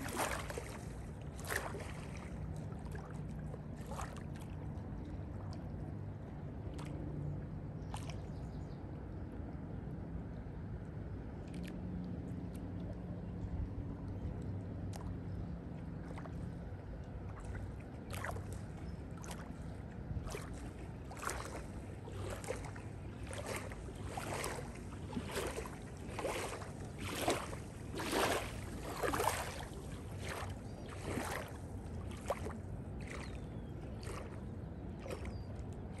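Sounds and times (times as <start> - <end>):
waves lapping and splashing: 0.0 - 8.7, 11.2 - 36.0.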